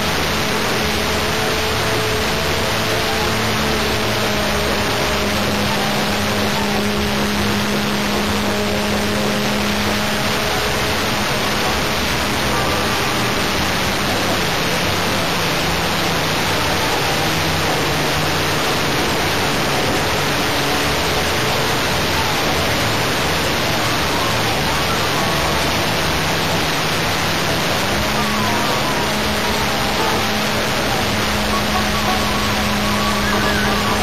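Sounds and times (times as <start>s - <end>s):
model plane engine running: 0.0s - 34.0s.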